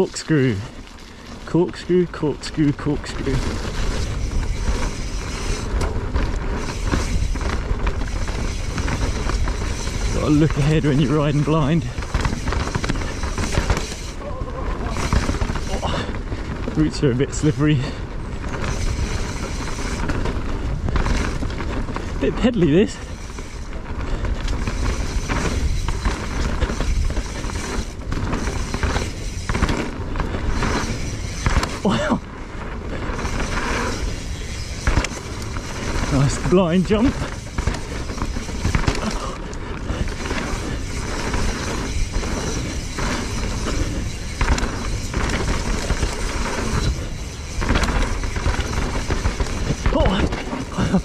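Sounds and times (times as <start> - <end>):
bike rattling: 0.0 - 51.0
tyres crackling over leaves and twigs: 0.0 - 51.0
wind noise on microphone: 2.3 - 51.0.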